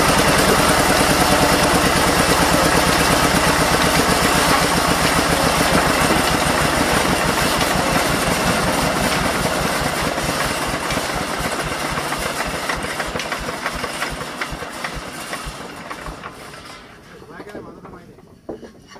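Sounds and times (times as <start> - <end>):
diesel engine running down: 0.0 - 17.1.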